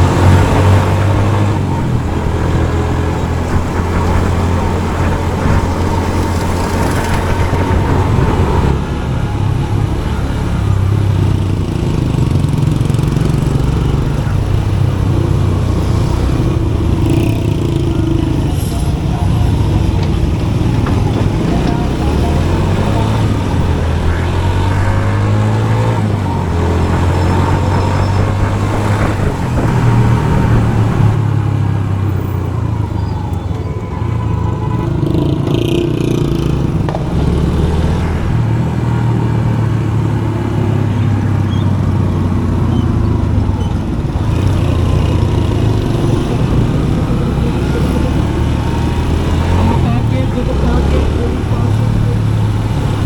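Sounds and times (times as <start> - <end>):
motorcycle engine droning: 0.0 - 53.0.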